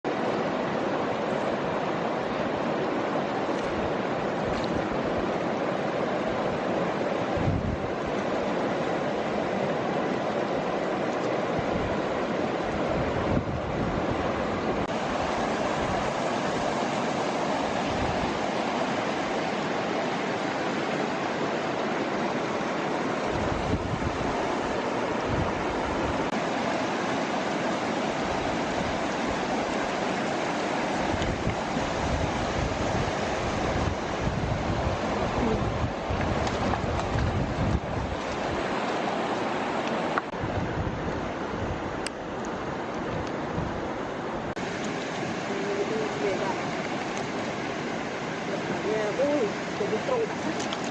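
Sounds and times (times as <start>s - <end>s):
steady rushing outdoor noise: 0.0s - 50.9s.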